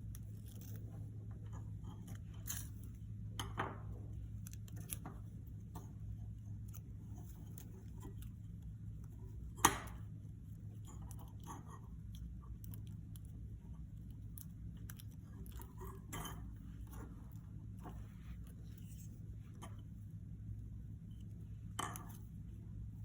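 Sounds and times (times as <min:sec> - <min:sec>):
rustling and handling: 0:00.0 - 0:23.0
steady low hum: 0:00.0 - 0:23.0.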